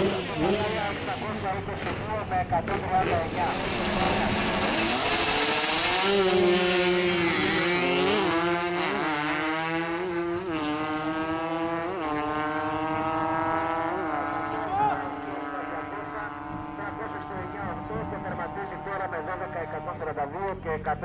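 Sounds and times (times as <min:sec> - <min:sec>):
motorcycle engines accelerating: 0:00.0 - 0:21.0.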